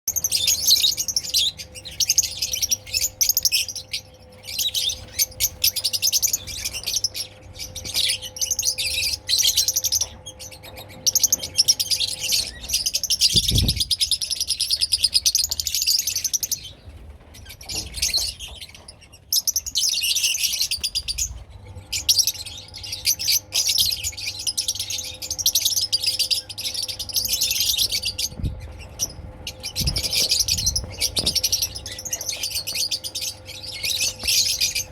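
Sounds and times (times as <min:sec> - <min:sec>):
parrots chirping and chattering: 0:00.1 - 0:34.9.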